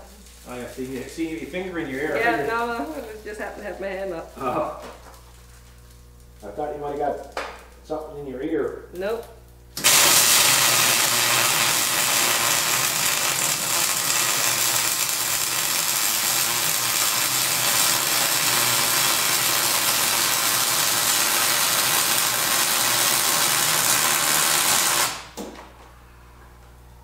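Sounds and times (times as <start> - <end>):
welding arc crackling: 0.0 - 25.4.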